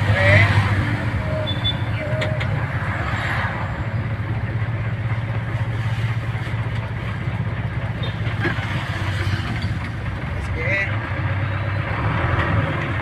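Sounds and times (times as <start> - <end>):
road and wind noise: 0.0 - 13.0
vehicle engine drone: 0.0 - 13.0.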